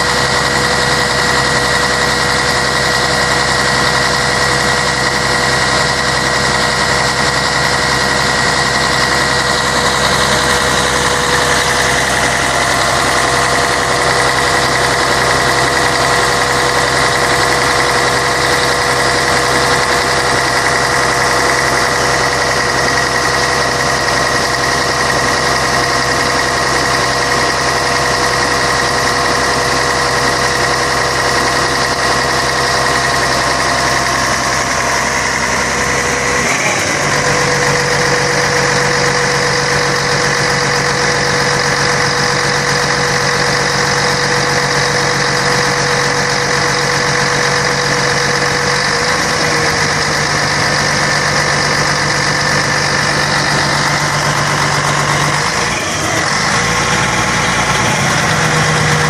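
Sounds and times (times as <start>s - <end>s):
diesel bus engine droning: 0.0s - 59.0s.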